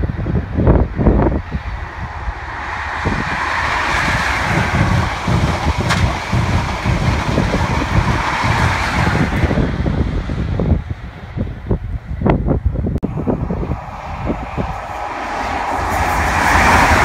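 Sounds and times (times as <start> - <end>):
train passing at speed: 0.0 - 17.0
wind buffeting microphone: 0.0 - 17.0.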